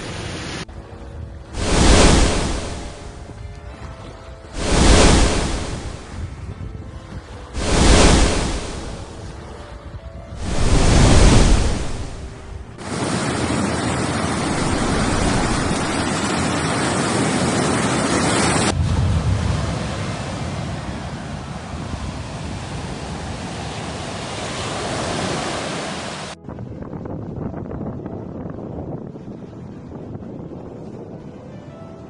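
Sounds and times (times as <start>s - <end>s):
sea waves breaking on shore: 0.0s - 26.4s.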